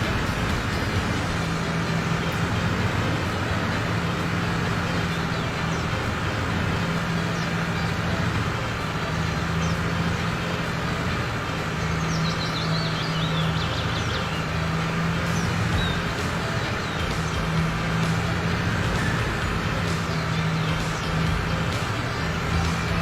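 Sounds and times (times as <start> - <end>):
heavy vehicle engine running: 0.0 - 23.0
high chirps or squeaks: 0.0 - 23.0.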